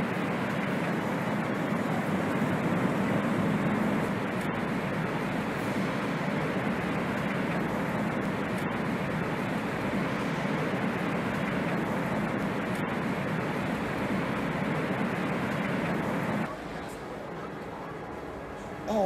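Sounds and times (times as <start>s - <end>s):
strong wind roaring: 0.0s - 16.5s.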